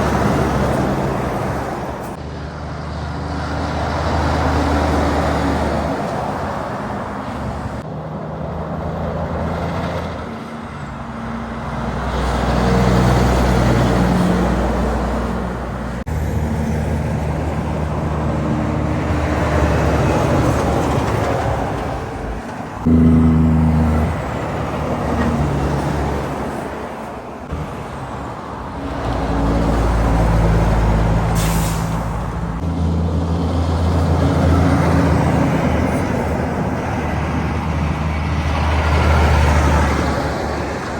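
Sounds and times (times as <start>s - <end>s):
highway traffic passing: 0.0s - 40.9s.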